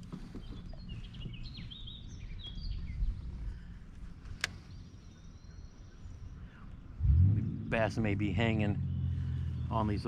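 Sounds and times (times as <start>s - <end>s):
small birds chirping: 0.0s - 10.0s
low steady rumble: 1.8s - 10.0s.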